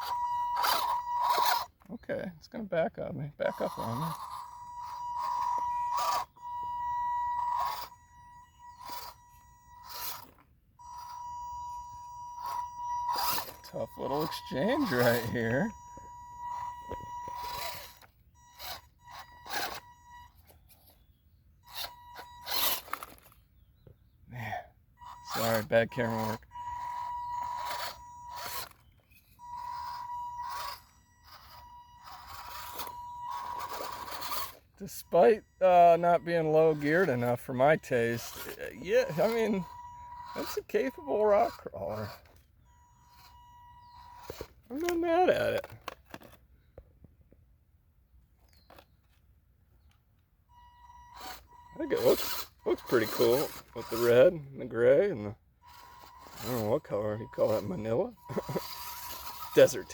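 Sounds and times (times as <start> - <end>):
electric motor whining: 0.0 - 1.8, 3.4 - 24.2, 25.0 - 46.4, 50.5 - 59.9
tires scraping on rock: 0.0 - 1.9, 3.4 - 21.0, 21.7 - 23.4, 25.0 - 46.7, 51.0 - 59.9.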